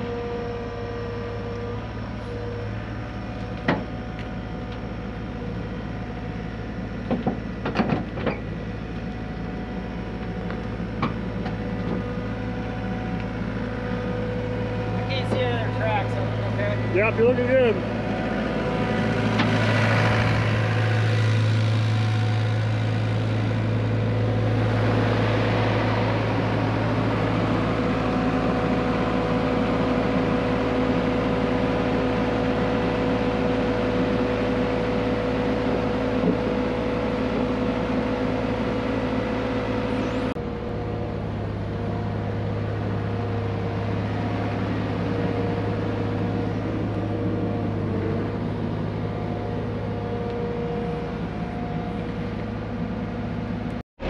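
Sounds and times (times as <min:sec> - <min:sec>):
excavator diesel engine running: 0:00.0 - 0:53.8.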